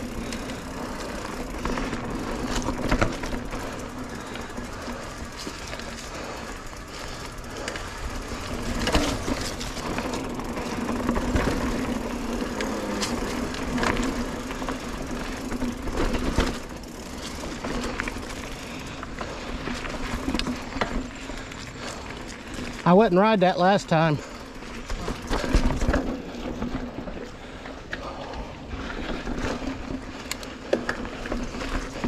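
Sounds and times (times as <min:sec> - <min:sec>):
bike knocking and rattling: 0:00.0 - 0:32.0
bike tyres rolling over dirt: 0:00.0 - 0:32.0.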